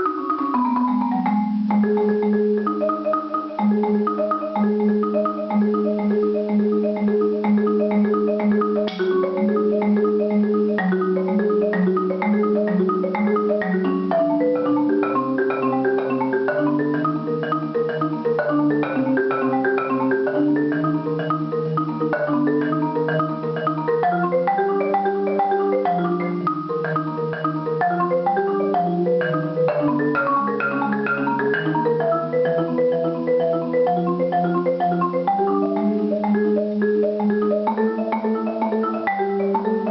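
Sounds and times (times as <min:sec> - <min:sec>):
solo marimba playing: 0:00.0 - 0:39.9.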